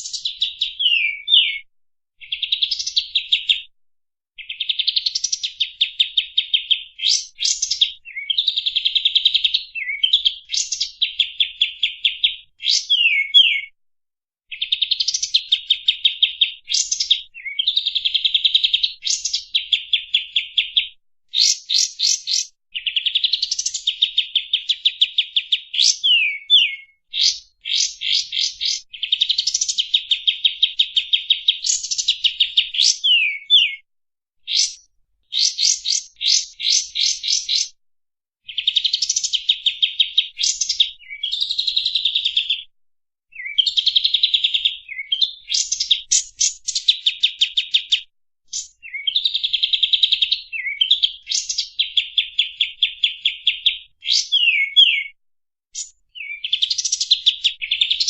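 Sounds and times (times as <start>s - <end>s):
bird song with chirp trills: 0.0s - 3.8s, 4.4s - 13.8s, 14.5s - 37.8s, 38.4s - 42.7s, 43.3s - 55.2s, 55.8s - 58.0s.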